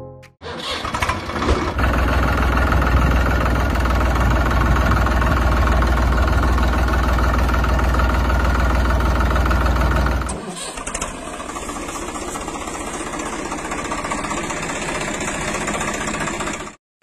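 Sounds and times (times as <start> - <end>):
tractor engine idling: 0.8 - 16.8.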